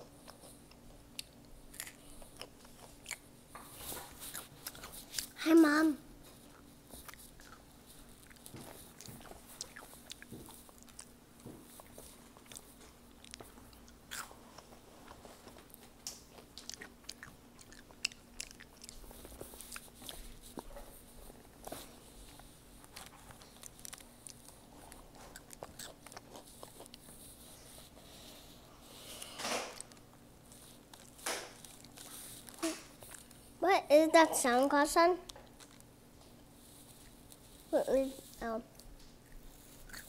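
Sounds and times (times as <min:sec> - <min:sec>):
child chewing crunchy food: 0:00.0 - 0:40.0.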